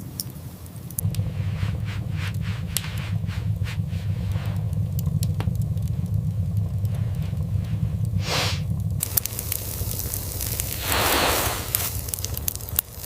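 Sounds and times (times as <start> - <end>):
crackling: 0.0 - 13.0
low rumble: 0.7 - 13.0
whooshing: 1.0 - 13.0.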